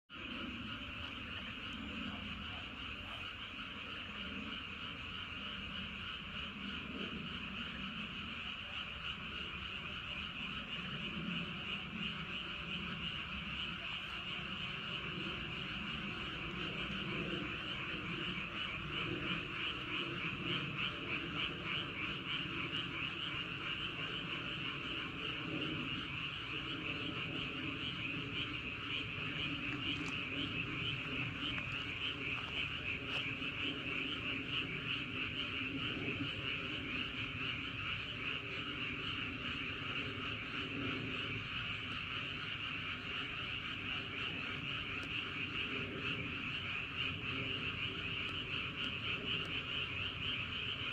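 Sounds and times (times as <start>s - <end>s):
frogs croaking: 0.1s - 50.9s.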